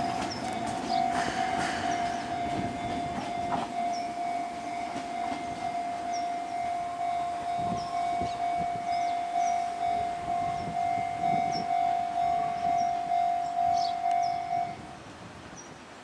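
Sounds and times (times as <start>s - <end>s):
level crossing bell clanging: 0.0s - 14.8s
electric train pulling away: 0.0s - 15.3s.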